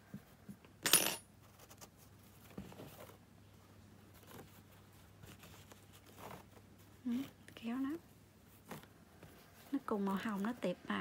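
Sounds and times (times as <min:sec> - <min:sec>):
low steady hum: 0:00.0 - 0:11.0
soft rustles of yarn: 0:01.4 - 0:11.0.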